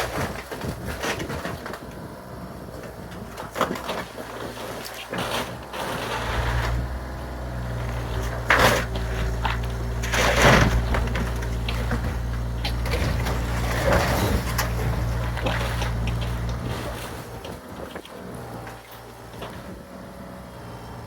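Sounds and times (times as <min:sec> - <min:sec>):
excavator engine running: 0:00.0 - 0:21.0
debris crunching: 0:02.9 - 0:19.8.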